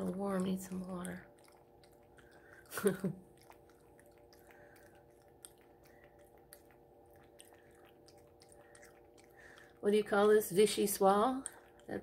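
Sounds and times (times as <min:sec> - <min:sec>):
cat lapping water: 0:00.0 - 0:12.0
low steady hum: 0:00.0 - 0:12.0.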